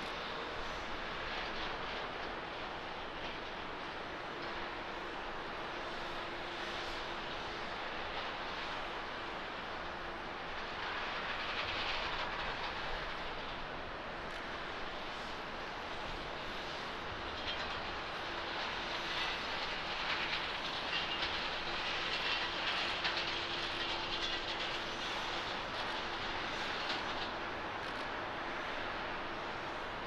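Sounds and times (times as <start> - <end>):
jet engines droning with whine: 0.0 - 30.0.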